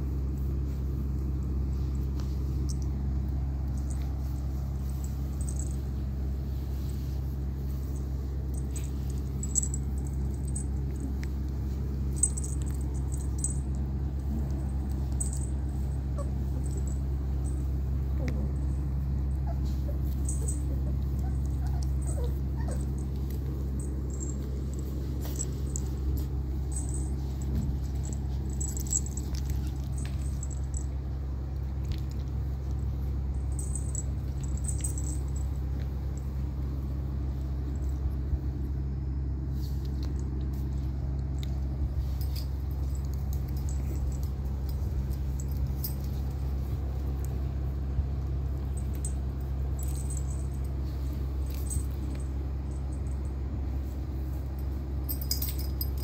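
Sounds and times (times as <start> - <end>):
low background hum: 0.0 - 56.0
puppies clicking and rustling: 0.0 - 56.0.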